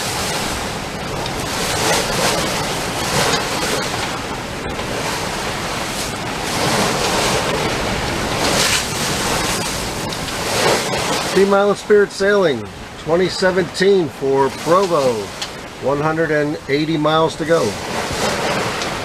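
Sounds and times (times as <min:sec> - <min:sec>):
water splashing along boat hull: 0:00.0 - 0:19.0
wind on microphone: 0:00.0 - 0:19.0.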